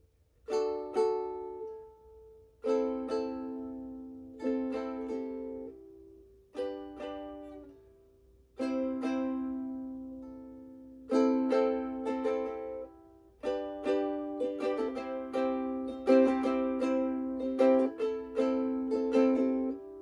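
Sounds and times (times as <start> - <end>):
ukulele chords strummed: 0.0 - 20.0.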